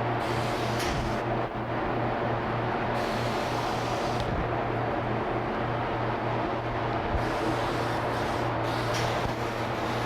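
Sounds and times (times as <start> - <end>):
fan rushing air: 0.0 - 10.0.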